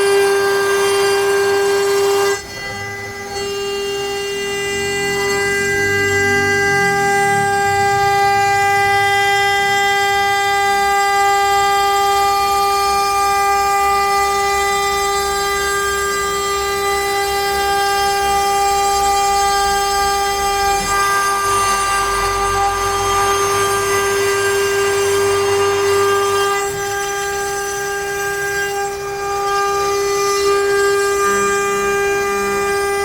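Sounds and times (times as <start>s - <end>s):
router spindle whining: 0.0s - 33.0s.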